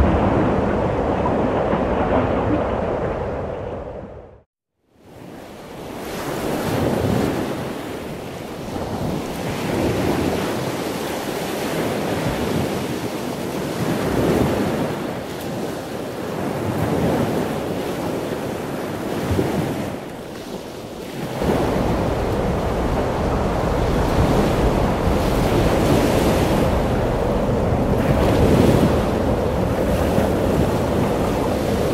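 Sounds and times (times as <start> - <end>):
ocean surf breaking: 0.0 - 4.2, 5.1 - 31.9
wind buffeting microphone: 0.0 - 4.4, 8.5 - 31.9.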